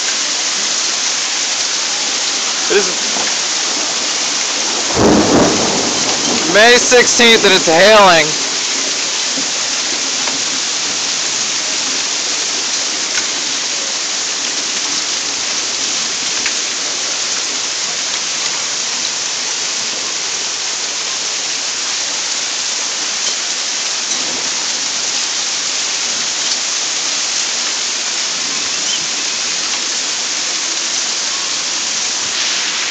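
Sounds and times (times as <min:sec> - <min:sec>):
hailstones ticking: 0:00.0 - 0:32.9
heavy rain hissing: 0:00.0 - 0:32.9.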